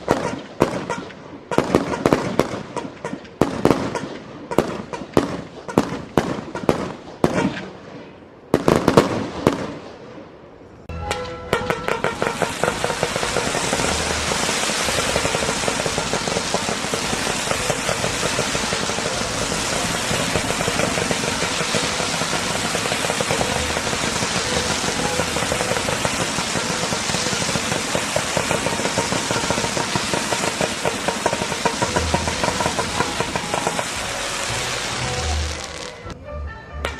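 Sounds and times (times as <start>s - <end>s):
fireworks crackling: 0.0s - 10.1s, 11.0s - 36.2s.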